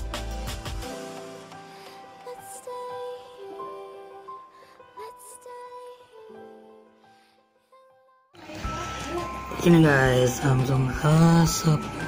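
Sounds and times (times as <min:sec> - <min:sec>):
soft music of held notes: 0:00.0 - 0:12.0.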